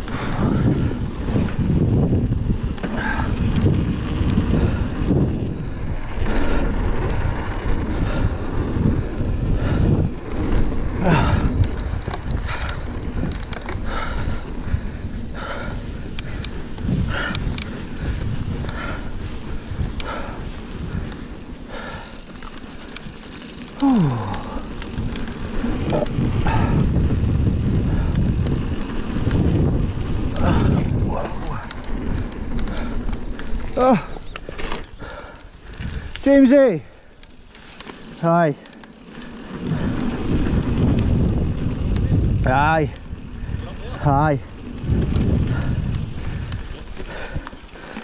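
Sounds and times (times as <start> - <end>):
wind on microphone: 0.0 - 23.2, 23.8 - 37.1, 39.2 - 48.0
bike clicks and rattles: 0.0 - 48.0
tyres rumbling on dirt: 0.0 - 48.0.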